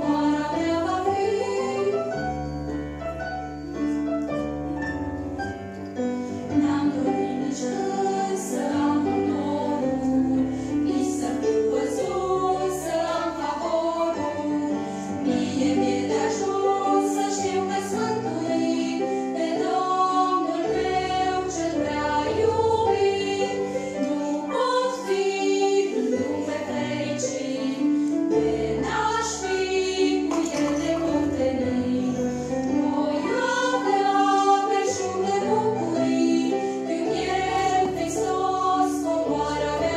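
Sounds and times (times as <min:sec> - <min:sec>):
women singing together: 0:00.0 - 0:02.2, 0:06.5 - 0:39.9
keyboard accompaniment: 0:00.0 - 0:39.9.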